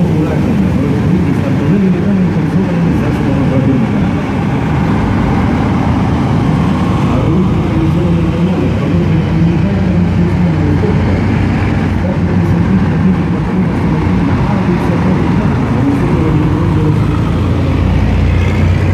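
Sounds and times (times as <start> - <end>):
heavy trucks driving past: 0.0 - 18.9.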